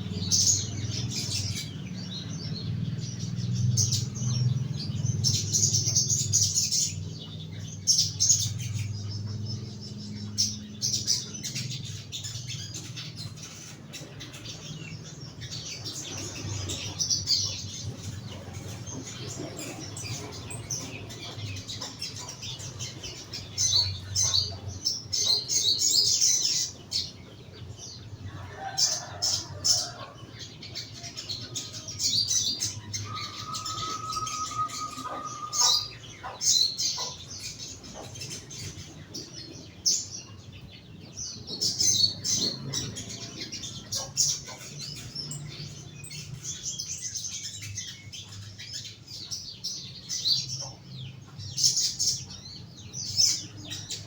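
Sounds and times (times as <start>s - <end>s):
bird chirping and twittering: 0.0s - 54.0s.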